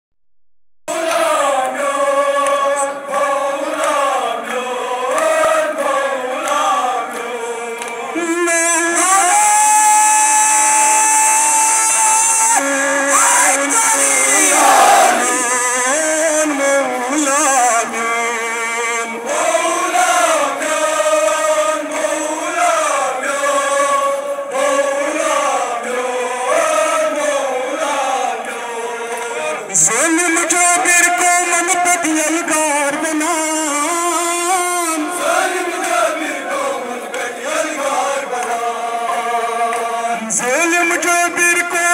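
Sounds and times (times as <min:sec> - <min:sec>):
crowd of men chanting a lament: 0:00.9 - 0:41.9.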